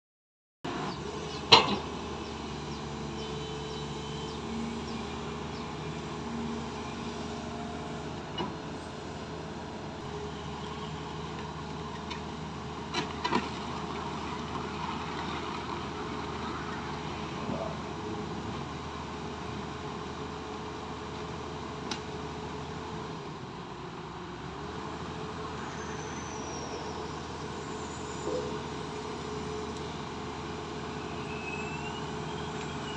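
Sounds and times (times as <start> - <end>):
excavator diesel engine running: 0.7 - 32.9.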